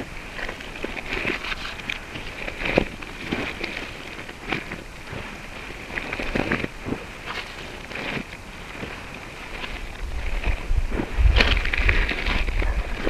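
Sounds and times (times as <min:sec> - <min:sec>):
dry stalks crackling: 0:00.0 - 0:13.0
footsteps on dry grass: 0:00.0 - 0:13.0.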